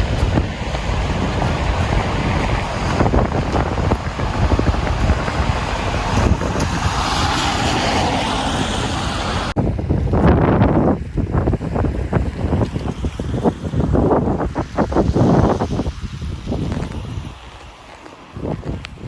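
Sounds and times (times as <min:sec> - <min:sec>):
city street traffic: 0:00.0 - 0:19.0
wind buffeting microphone: 0:00.0 - 0:19.0.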